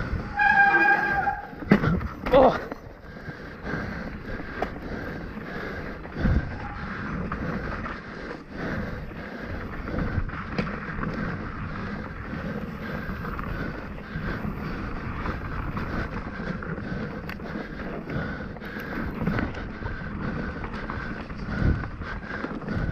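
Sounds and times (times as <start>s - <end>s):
bike rattling over bumps: 0.0s - 22.9s
bike tyre rumble on dirt: 0.0s - 22.9s
wind buffeting microphone: 0.0s - 22.9s.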